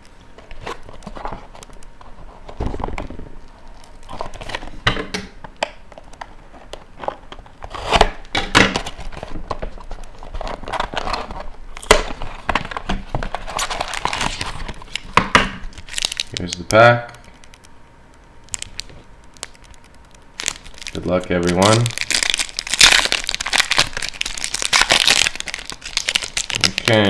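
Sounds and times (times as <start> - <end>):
plastic wrap and cardboard crinkling: 0.0 - 4.9, 5.9 - 17.7, 18.5 - 27.0.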